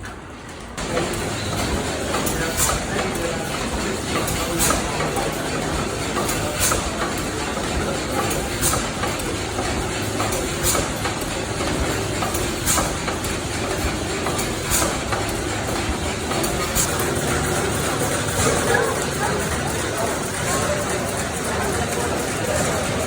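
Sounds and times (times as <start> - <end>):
steam engine clattering: 0.0 - 23.0.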